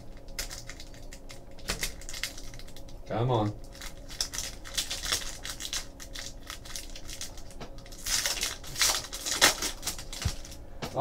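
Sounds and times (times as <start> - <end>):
wrapper tearing and crinkling: 0.3 - 2.9, 3.7 - 10.6.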